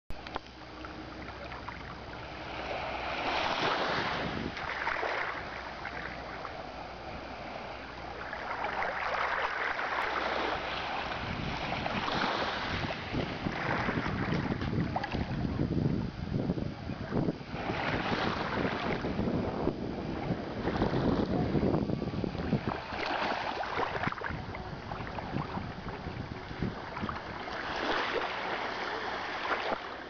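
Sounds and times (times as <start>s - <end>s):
waves breaking on beach: 1.3s - 30.0s.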